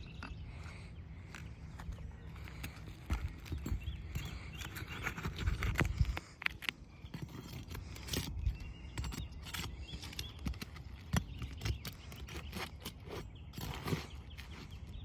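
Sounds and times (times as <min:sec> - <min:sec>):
metal scraping on nails: 0:02.6 - 0:14.9.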